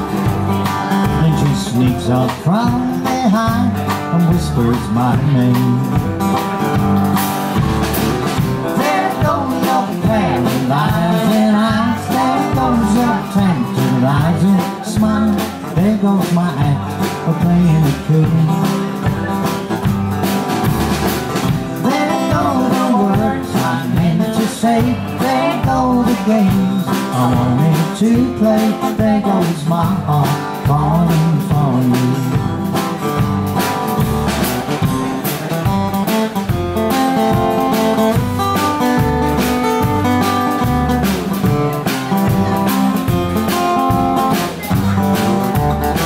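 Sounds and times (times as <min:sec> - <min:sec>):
live country band playing: 0:00.0 - 0:46.0.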